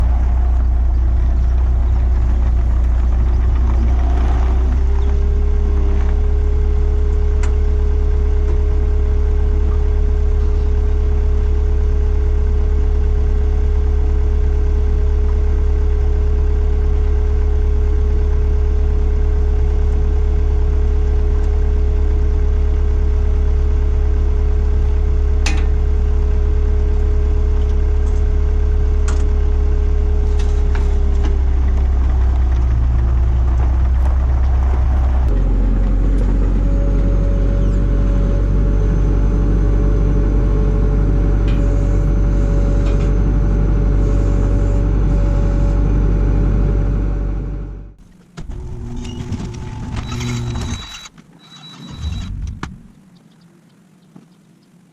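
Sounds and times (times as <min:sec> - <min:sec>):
skid steer engine running: 0:00.0 - 0:52.9.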